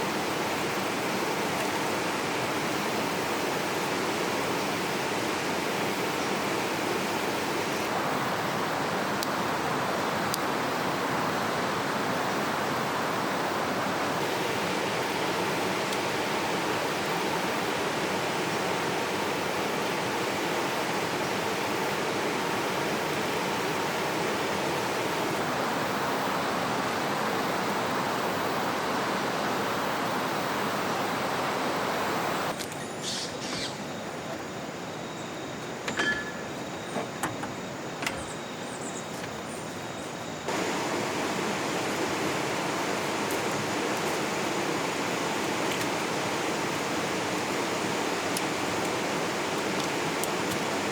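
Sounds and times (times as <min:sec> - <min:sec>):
river water rushing: 0:00.0 - 0:32.6, 0:40.2 - 0:50.9.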